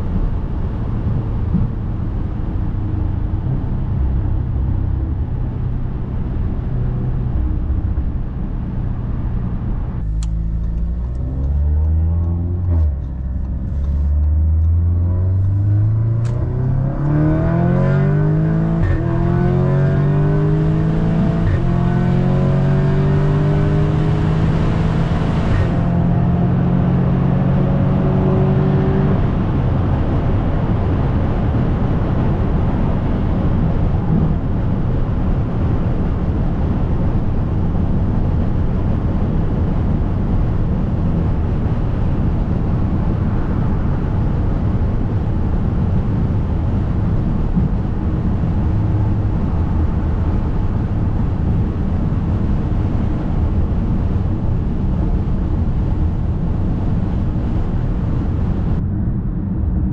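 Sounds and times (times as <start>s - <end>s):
tyre and road noise: 0.0s - 26.5s, 28.5s - 59.9s
car engine low drone: 0.0s - 59.9s.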